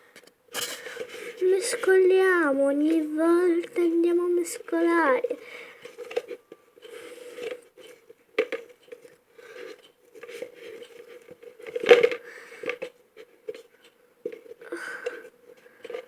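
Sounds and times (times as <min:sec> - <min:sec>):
stirrer scraping and knocking pot: 0:00.6 - 0:16.0.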